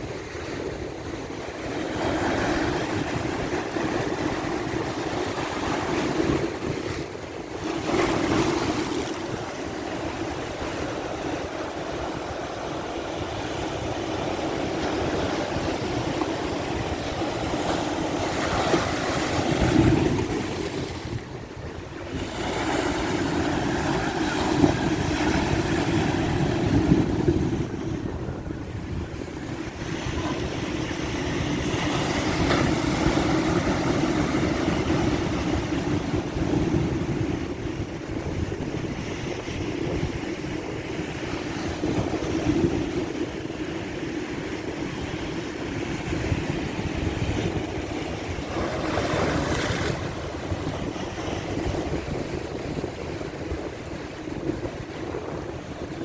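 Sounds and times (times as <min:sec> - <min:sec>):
waves breaking and washing in: 0:00.0 - 0:56.0
wind buffeting microphone: 0:00.0 - 0:56.0.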